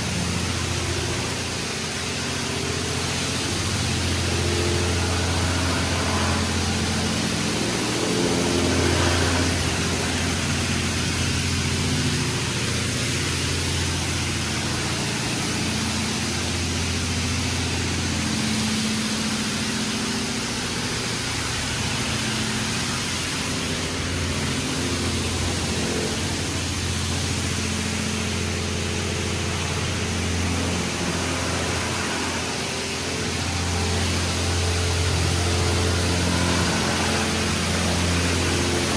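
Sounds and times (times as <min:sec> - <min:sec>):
steady low hum: 0:00.0 - 0:38.9
water spray hissing on car: 0:00.0 - 0:38.9.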